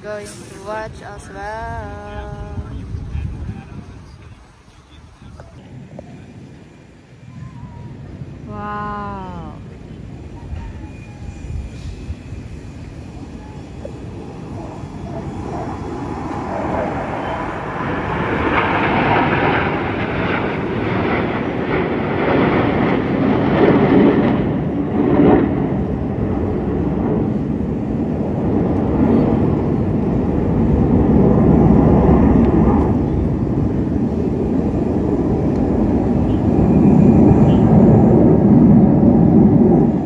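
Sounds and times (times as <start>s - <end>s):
jet engines roaring overhead: 0.0s - 40.0s.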